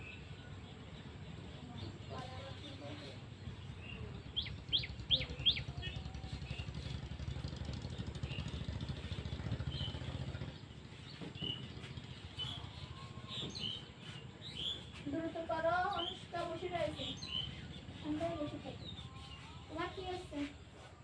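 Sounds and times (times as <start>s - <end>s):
bird chirps: 0.0s - 20.4s
low engine rumble: 0.0s - 21.0s.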